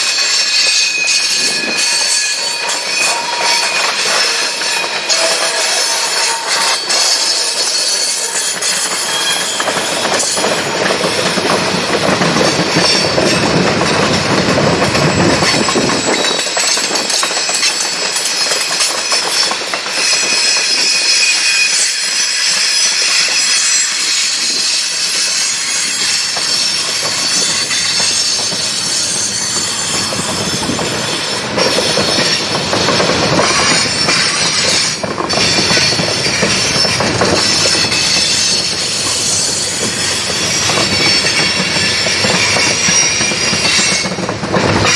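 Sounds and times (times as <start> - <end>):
clickety-clack over rail joints: 0.0 - 44.9
train wheels squealing on rail: 0.0 - 44.9.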